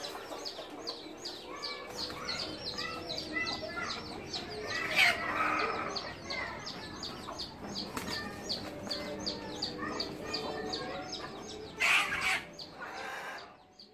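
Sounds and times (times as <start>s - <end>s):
hens clucking: 0.0s - 13.7s.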